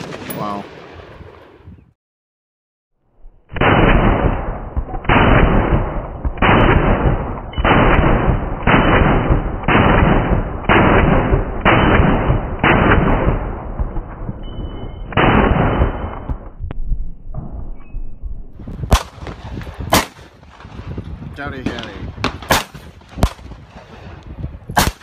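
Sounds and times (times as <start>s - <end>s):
slowed gunshot booms: 3.4s - 17.8s, 18.6s - 25.0s.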